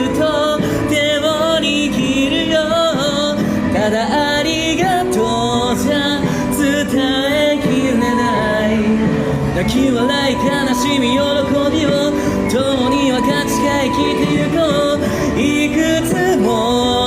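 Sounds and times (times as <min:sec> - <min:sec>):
held instrumental accompaniment: 0:00.0 - 0:17.0
person singing with vibrato: 0:00.0 - 0:17.0.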